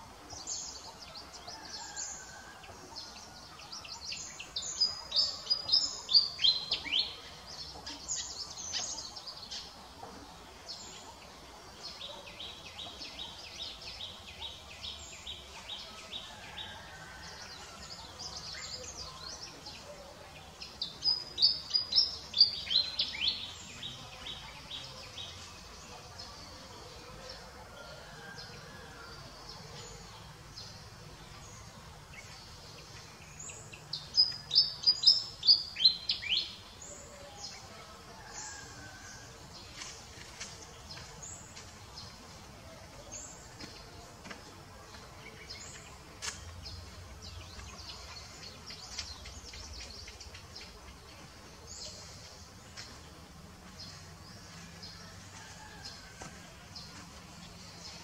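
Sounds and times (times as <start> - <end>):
faint outdoor background noise: 0.0 - 58.0.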